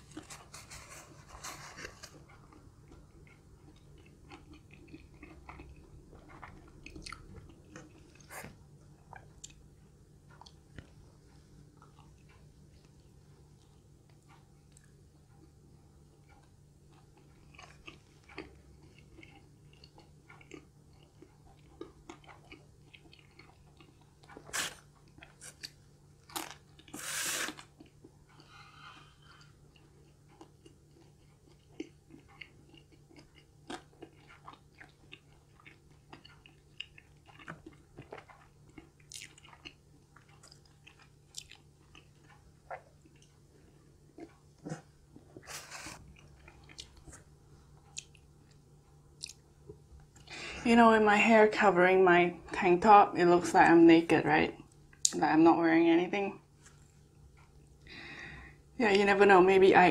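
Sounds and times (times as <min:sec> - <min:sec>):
person chewing: 0:00.0 - 0:50.5, 0:56.5 - 0:58.4
faint steady hum: 0:00.0 - 0:59.9.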